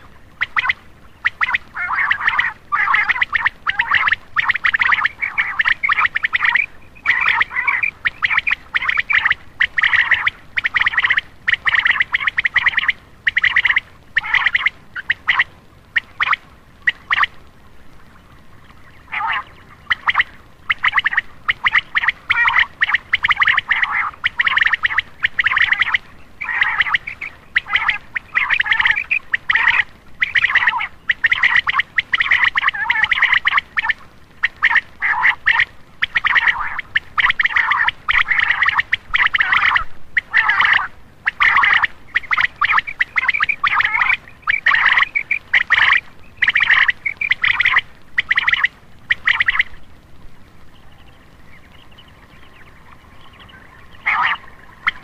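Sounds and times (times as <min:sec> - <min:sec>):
quail calling: 0:00.0 - 0:17.4, 0:18.6 - 0:50.0, 0:50.6 - 0:55.0.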